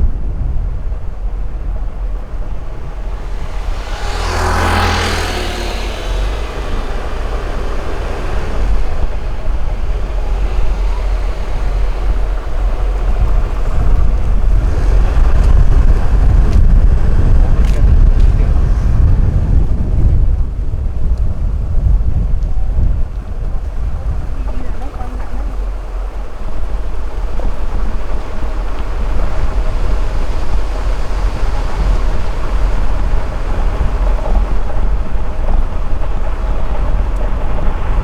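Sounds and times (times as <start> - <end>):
motorbike engine rumble: 0.0 - 38.0
wind buffeting microphone: 0.0 - 38.0.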